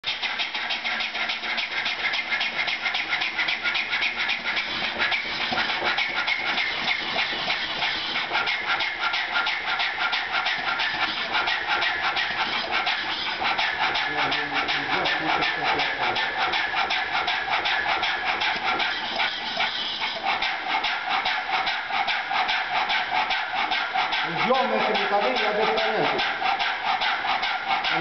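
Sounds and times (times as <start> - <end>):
steam engine rhythmic beat: 0.0 - 28.0.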